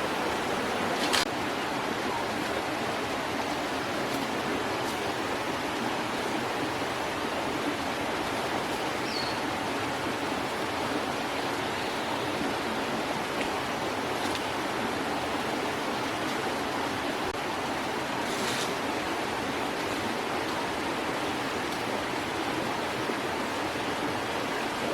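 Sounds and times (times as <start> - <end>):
flowing water rushing: 0.0 - 24.9.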